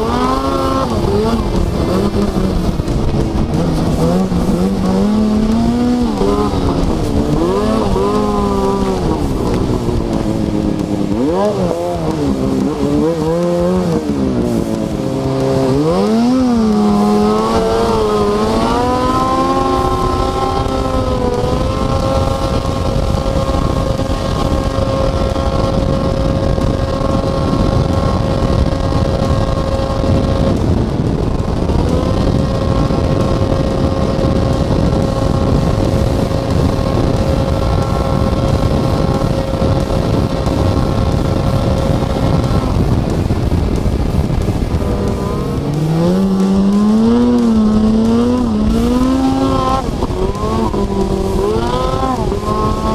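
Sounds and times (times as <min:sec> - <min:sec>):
snowmobile engine revving: 0:00.0 - 0:52.9
wind and track noise: 0:00.0 - 0:52.9.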